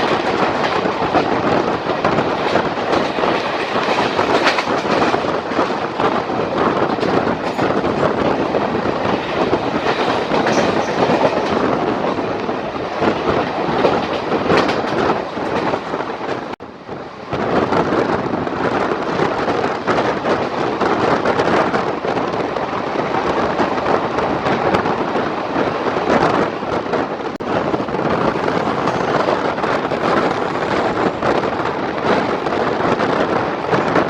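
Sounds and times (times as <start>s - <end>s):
train rumble and clatter: 0.0s - 34.0s.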